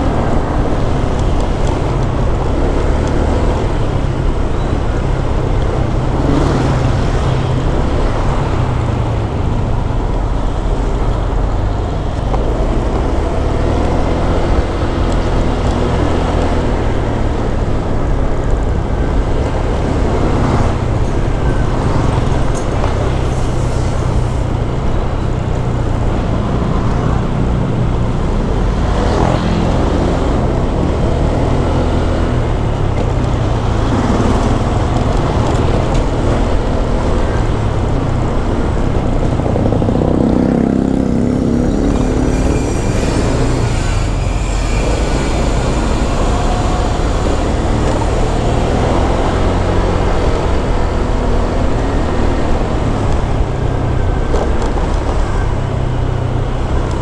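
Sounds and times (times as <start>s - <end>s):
scooter engine and road noise: 0.0s - 57.0s
traffic: 0.0s - 57.0s
wind rumbling on microphone: 0.0s - 57.0s.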